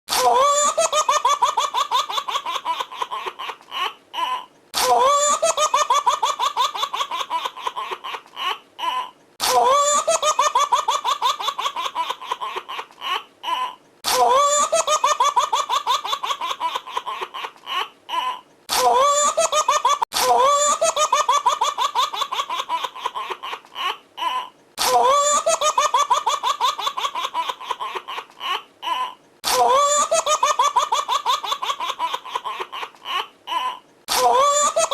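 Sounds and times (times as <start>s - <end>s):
baby giggling: 0.1s - 34.9s.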